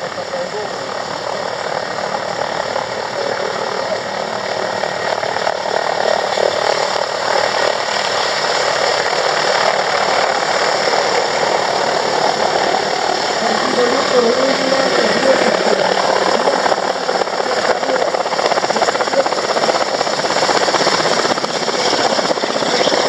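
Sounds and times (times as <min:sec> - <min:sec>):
helicopter hovering: 0:00.0 - 0:23.0.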